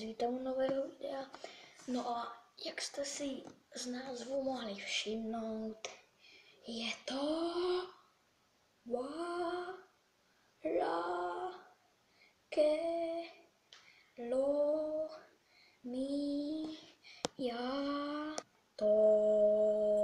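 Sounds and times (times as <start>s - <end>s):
boy singing: 0.0s - 6.0s, 6.6s - 8.0s, 8.8s - 10.0s, 10.6s - 11.8s, 12.5s - 13.4s, 14.2s - 20.0s.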